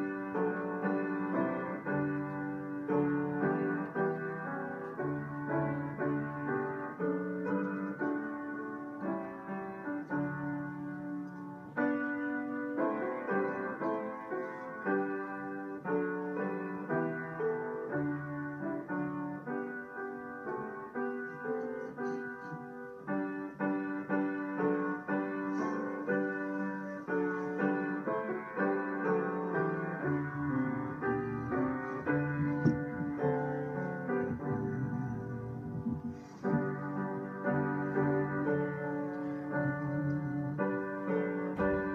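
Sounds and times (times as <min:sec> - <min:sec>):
solo piano playing: 0:00.0 - 0:41.9.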